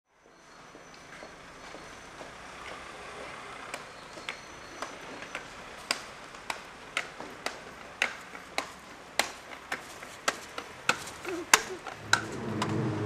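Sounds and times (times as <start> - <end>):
low street hiss: 0.1 - 13.0
footsteps clicking on pavement: 0.2 - 12.8.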